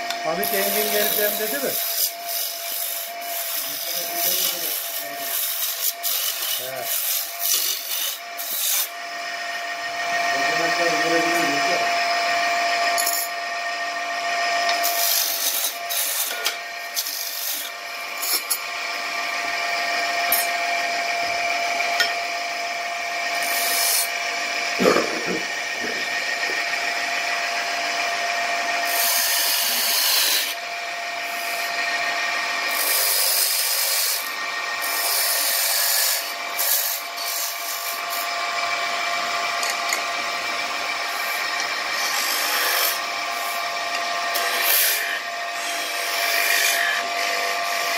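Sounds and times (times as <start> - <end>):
gouge cutting spinning wood: 0.0 - 47.9
wood lathe whining: 0.0 - 47.9.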